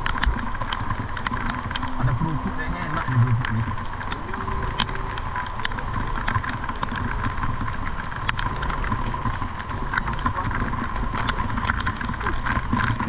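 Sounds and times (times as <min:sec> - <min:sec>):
car and motorbike engines idling: 0:00.0 - 0:13.0
rain ticking on an umbrella: 0:00.0 - 0:13.0.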